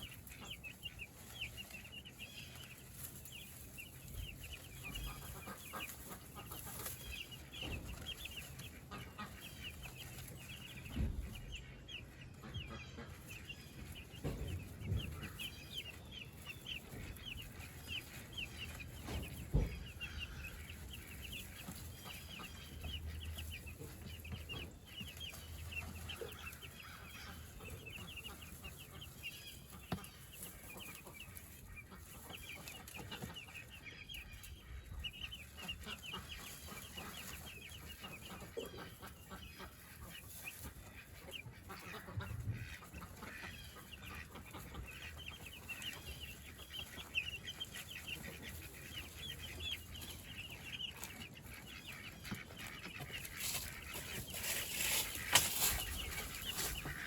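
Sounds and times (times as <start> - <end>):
chickens peeping: 0.0 - 57.0.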